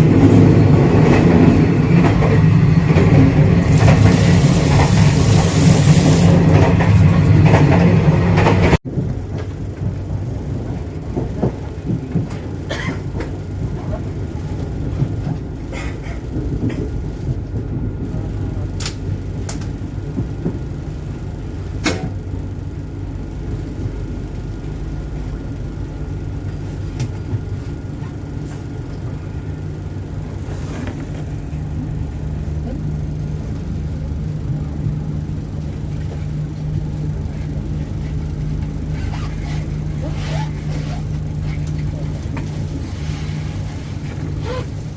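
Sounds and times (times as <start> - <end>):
train carriage rumble: 0.0 - 44.9
train running rush: 0.0 - 44.9.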